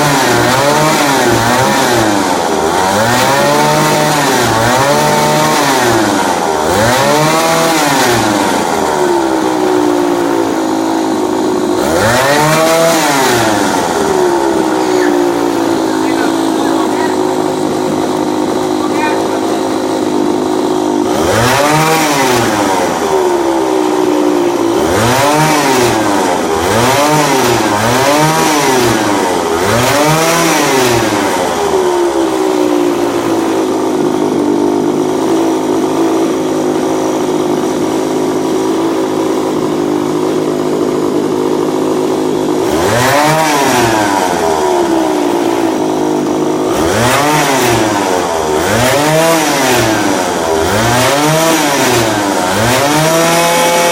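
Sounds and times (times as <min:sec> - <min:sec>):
go-kart engine revving and idling: 0:00.0 - 0:53.9.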